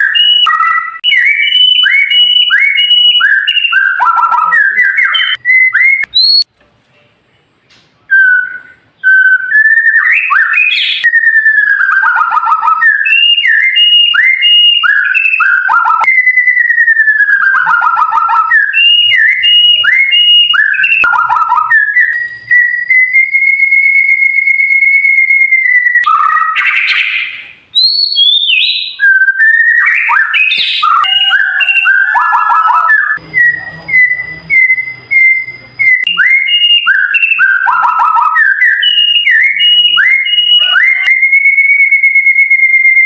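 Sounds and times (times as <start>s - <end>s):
songbird whistling: 0.0s - 6.5s, 8.1s - 43.0s.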